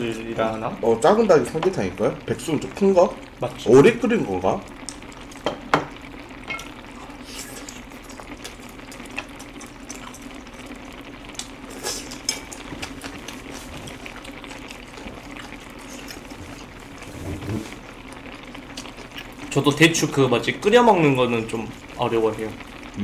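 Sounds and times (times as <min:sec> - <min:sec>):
porridge bubbling in a pot: 0:00.0 - 0:23.0.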